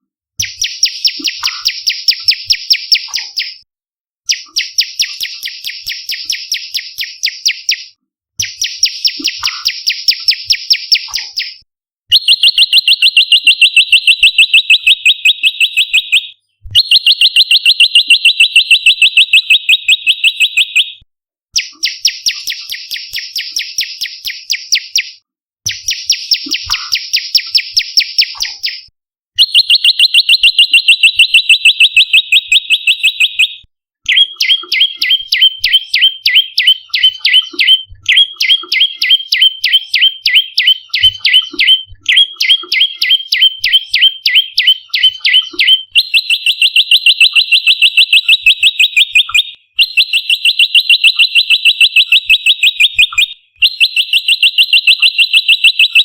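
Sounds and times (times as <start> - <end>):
bird trilling sharp chirps: 0.4 - 3.6, 4.3 - 21.0, 21.6 - 56.0.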